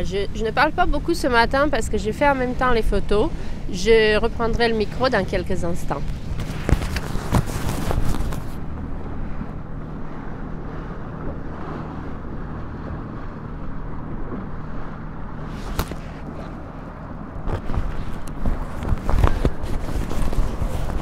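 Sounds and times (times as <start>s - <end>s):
motorboat engine drone: 0.0s - 21.0s
wind buffeting microphone: 0.0s - 21.0s.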